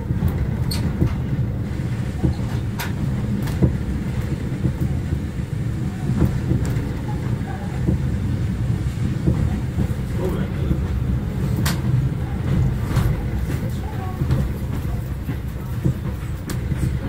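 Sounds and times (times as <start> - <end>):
railway carriage rumble: 0.0 - 17.0
wheels clicking over rail joints: 0.0 - 17.0.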